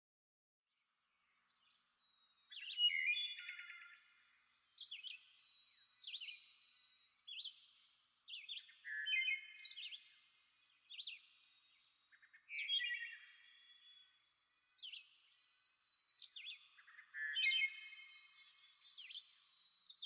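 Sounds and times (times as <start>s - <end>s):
birds chirping: 1.5s - 20.0s.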